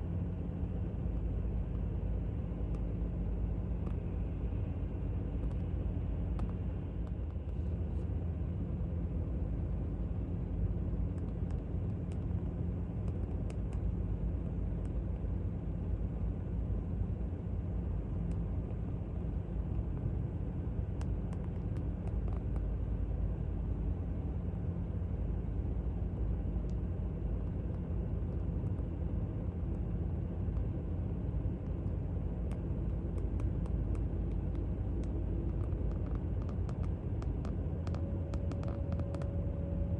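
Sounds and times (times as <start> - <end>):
distant airport traffic rumble: 0.0 - 39.9.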